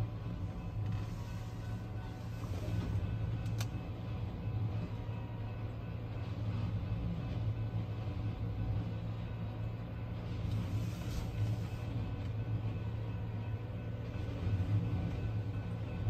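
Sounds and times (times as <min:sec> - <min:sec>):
low engine rumble in cab: 0:00.0 - 0:16.0.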